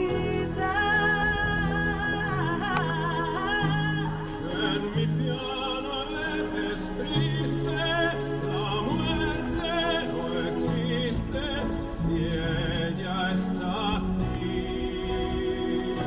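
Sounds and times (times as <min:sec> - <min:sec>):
held bass notes: 0:00.0 - 0:16.0
operatic voice singing: 0:00.0 - 0:16.0.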